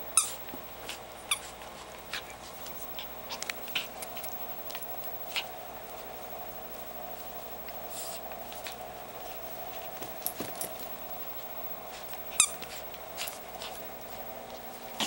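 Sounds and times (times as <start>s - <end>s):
puppy chewing toy: 0.0s - 15.0s.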